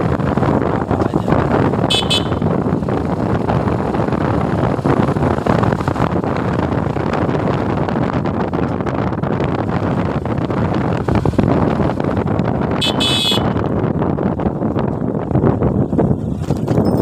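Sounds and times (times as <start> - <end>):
motorcycle engine and road noise: 0.0 - 17.0
wind rush over microphone: 0.0 - 17.0.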